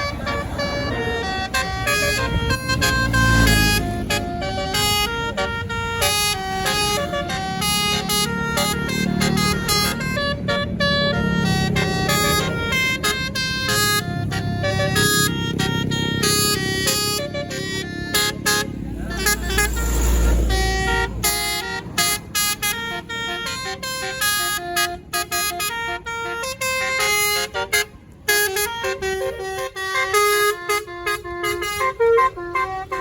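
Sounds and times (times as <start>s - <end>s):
musical air horn tune: 0.0s - 33.0s.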